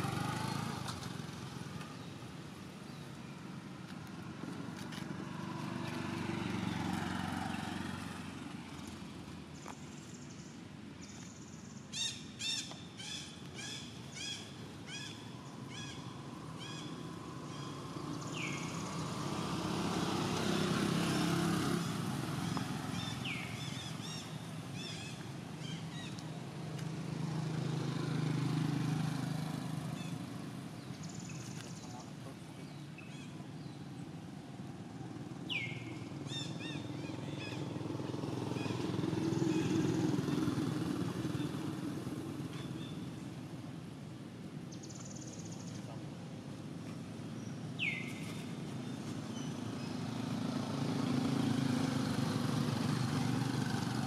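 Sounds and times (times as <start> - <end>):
motorbikes passing: 0.0 - 54.0.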